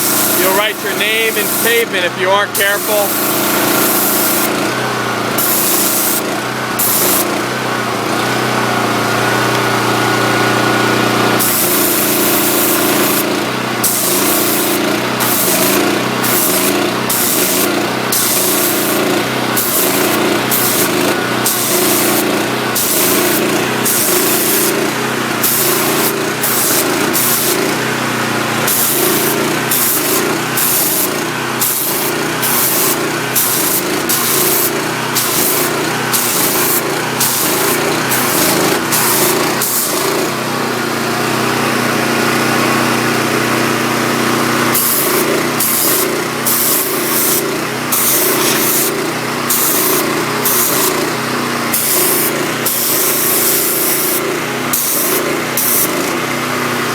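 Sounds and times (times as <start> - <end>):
high-pressure water spray hiss: 0.0 - 7.4, 11.4 - 27.9, 28.6 - 40.4, 44.7 - 56.2
pressure washer engine running: 0.0 - 56.9.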